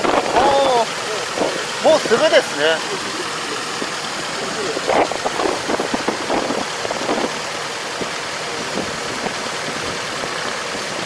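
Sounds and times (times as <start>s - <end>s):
farm machine engine running: 0.0s - 11.0s.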